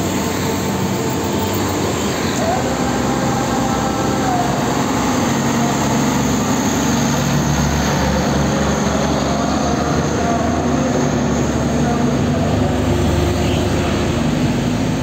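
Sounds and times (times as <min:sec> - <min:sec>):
road traffic noise: 0:00.0 - 0:15.0
truck diesel engine passing: 0:00.0 - 0:15.0.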